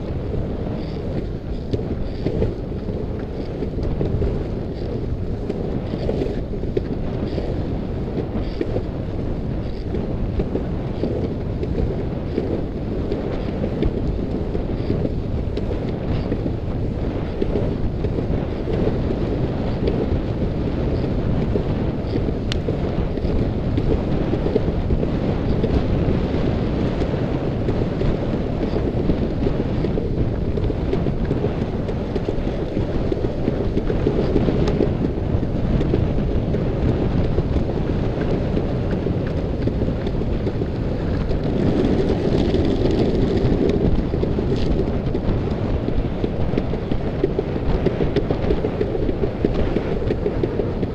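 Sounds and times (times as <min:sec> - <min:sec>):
longboard wheels rolling on asphalt: 0:00.0 - 0:50.9
wind buffeting microphone: 0:00.0 - 0:50.9.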